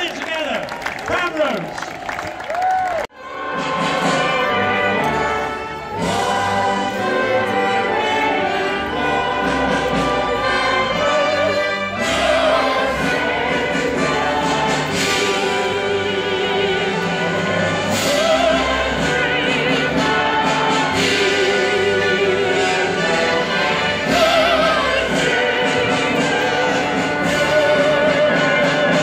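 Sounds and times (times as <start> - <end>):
operatic singing: 3.2 - 29.0
symphony orchestra playing: 3.2 - 29.0.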